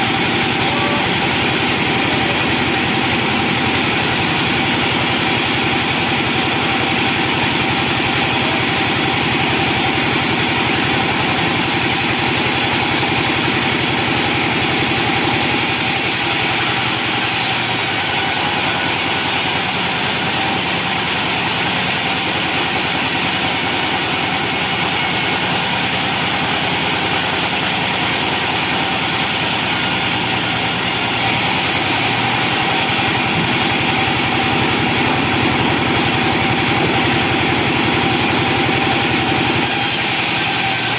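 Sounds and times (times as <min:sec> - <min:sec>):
band sawmill droning: 0:00.0 - 0:40.9.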